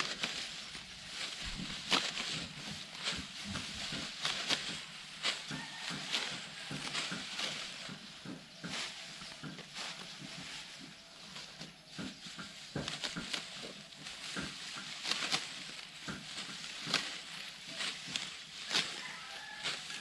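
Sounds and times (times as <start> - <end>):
sickle cutting rice stalks: 0.0 - 20.0.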